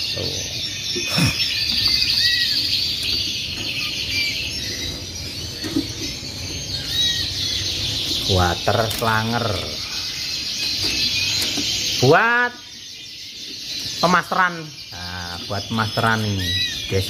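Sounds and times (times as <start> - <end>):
canaries chirping and singing: 0.0 - 17.0.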